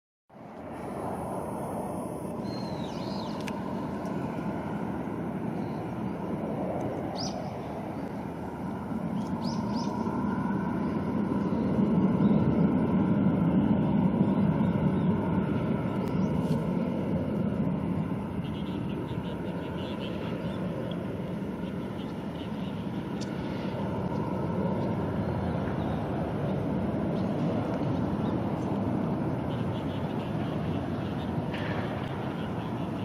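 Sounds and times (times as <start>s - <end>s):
jet engines rumbling: 0.3s - 33.0s.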